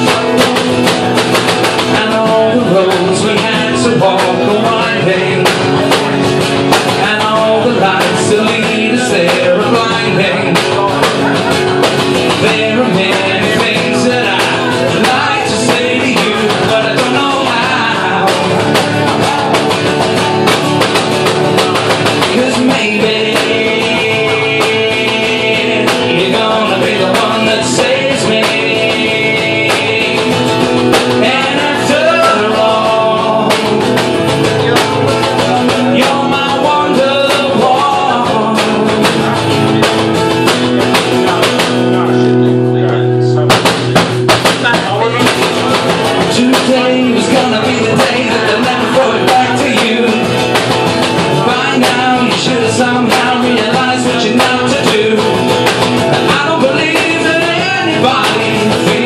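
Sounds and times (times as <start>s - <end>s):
guitar strumming: 0.0s - 59.0s
person singing: 0.0s - 59.0s.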